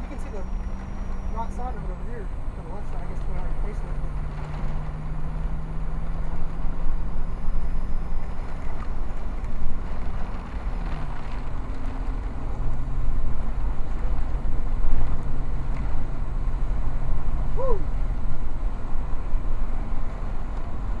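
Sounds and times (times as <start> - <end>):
road and wind noise: 0.0 - 21.0
vehicle engine running: 0.0 - 21.0.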